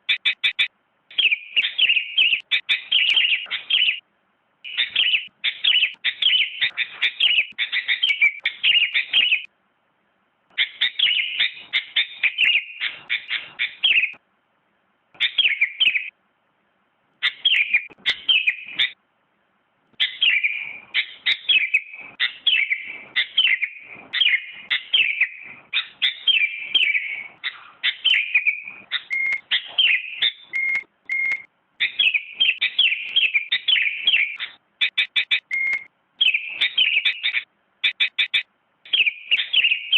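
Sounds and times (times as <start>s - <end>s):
bird singing bright chirps: 0.0s - 4.0s, 4.6s - 9.5s, 10.5s - 14.2s, 15.2s - 16.2s, 17.2s - 19.0s, 20.0s - 39.9s.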